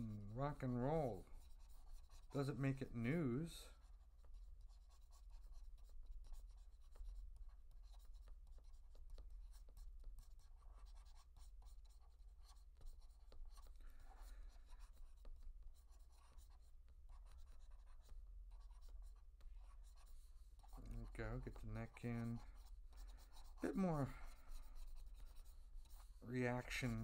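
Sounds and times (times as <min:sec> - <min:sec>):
stylus scratching on tablet: 0:00.0 - 0:27.0.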